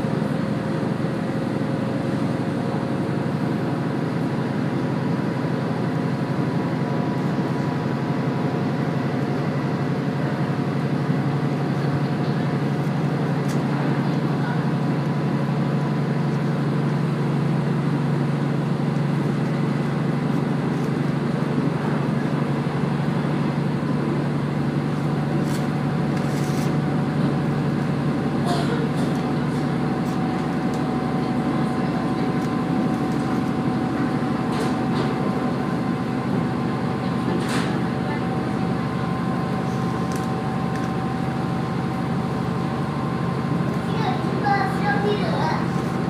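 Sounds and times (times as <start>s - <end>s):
diesel railcar rumbling: 0.0s - 46.0s.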